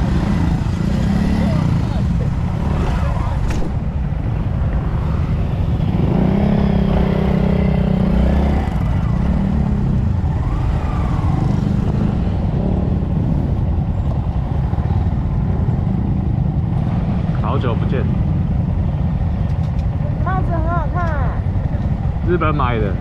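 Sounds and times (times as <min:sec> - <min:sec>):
low rumble: 0:00.0 - 0:23.0
motorcycle engines running: 0:00.0 - 0:23.0.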